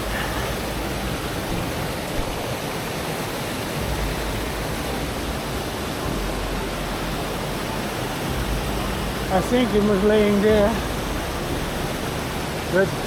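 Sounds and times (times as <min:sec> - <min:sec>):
fast-flowing water rushing: 0:00.0 - 0:13.0.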